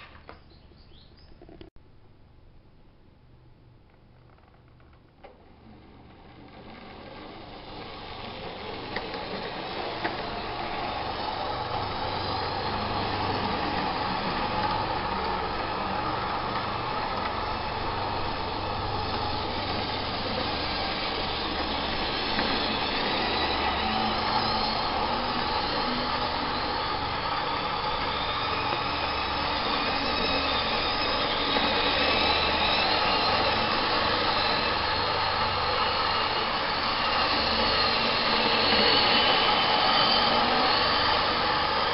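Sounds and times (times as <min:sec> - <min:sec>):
wheels rumbling over rail joints: 0:03.9 - 0:41.9
model train motors whirring: 0:05.2 - 0:41.9.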